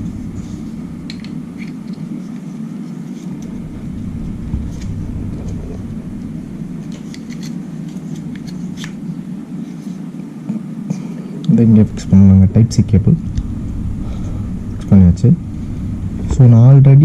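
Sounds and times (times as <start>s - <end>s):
low background rumble: 0.0s - 10.2s, 11.4s - 17.0s.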